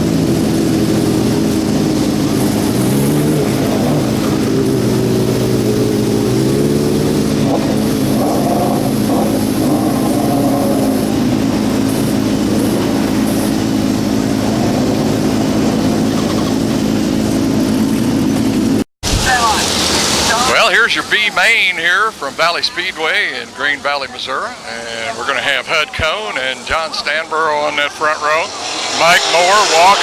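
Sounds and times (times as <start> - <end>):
racing car engines: 0.0 - 30.0.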